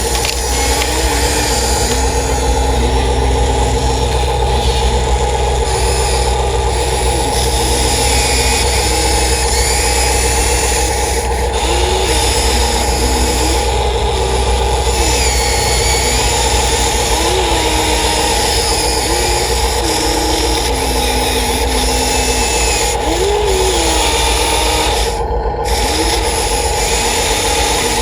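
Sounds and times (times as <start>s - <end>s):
electric motor whine: 0.0s - 28.0s
motor hum and rasping: 0.0s - 28.0s.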